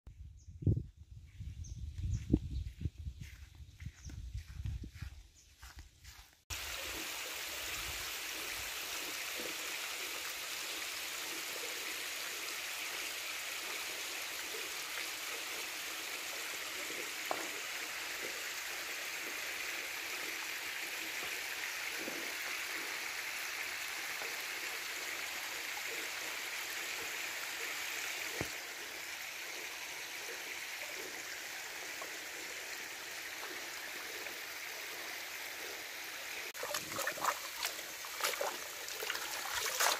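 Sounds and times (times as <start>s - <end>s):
running water: 4.4s - 39.9s.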